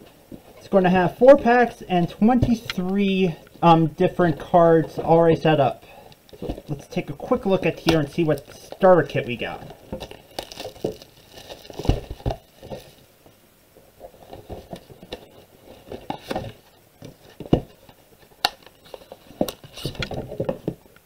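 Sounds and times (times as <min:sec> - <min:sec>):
cards rustling: 0:00.6 - 0:13.1, 0:14.0 - 0:20.7.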